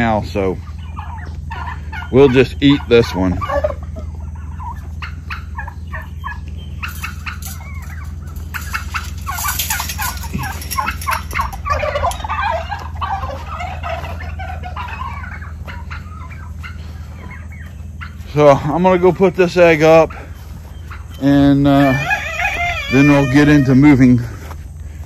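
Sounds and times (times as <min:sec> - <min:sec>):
steady low hum: 0:00.0 - 0:25.0
turkeys calling: 0:00.0 - 0:25.0.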